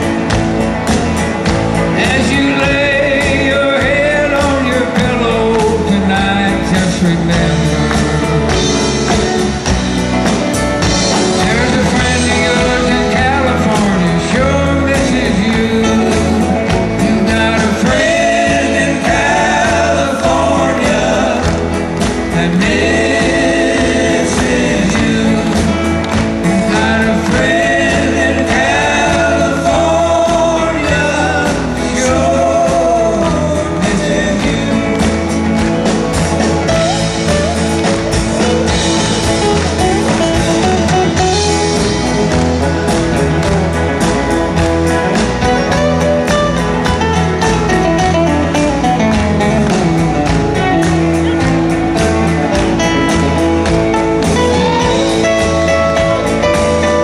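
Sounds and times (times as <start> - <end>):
live country band playing: 0.0 - 57.0.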